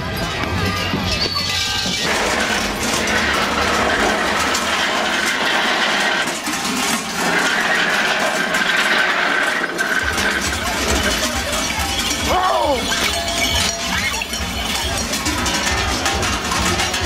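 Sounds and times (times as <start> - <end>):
large bells clanging: 0.0 - 9.2, 10.0 - 17.0.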